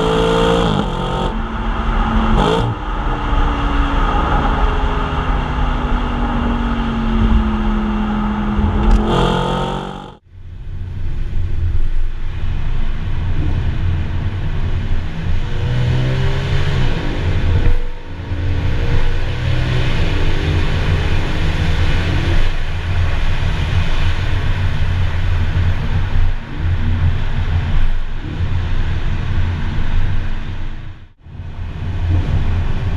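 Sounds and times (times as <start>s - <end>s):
car engine and exhaust: 0.0s - 32.9s.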